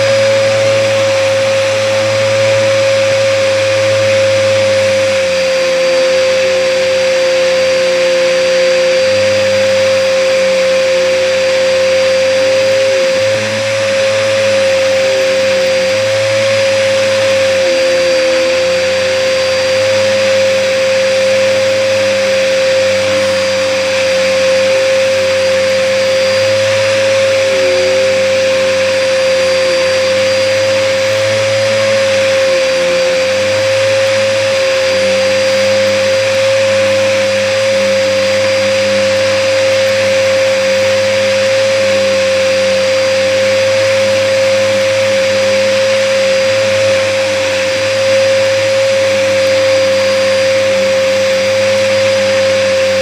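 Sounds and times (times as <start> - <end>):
vacuum cleaner motor whine: 0.0 - 53.0.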